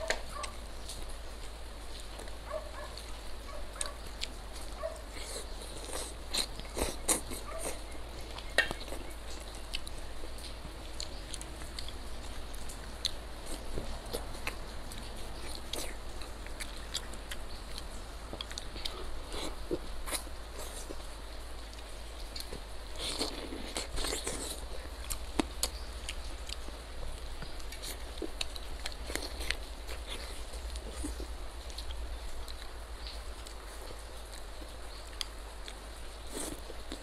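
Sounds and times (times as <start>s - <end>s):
wet chewing: 0.0s - 37.0s.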